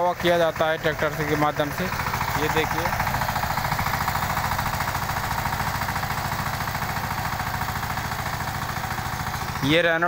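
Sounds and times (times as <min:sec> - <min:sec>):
tractor engine chugging: 0:00.0 - 0:10.0.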